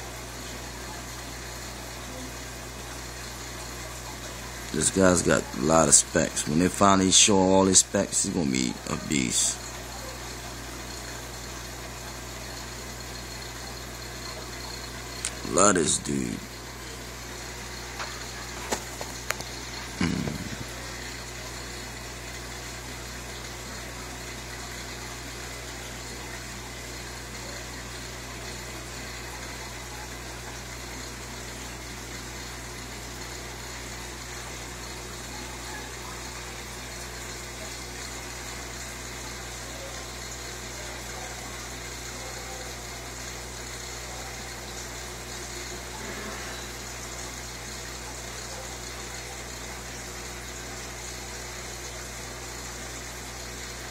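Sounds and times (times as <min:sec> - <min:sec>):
aquarium filter hum: 0:00.0 - 0:53.9.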